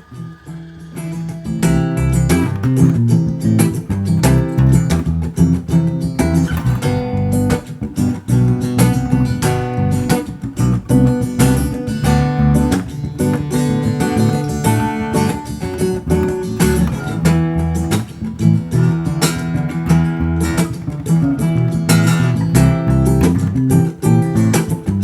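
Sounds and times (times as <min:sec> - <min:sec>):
background music with steady rhythm: 0:00.0 - 0:25.0.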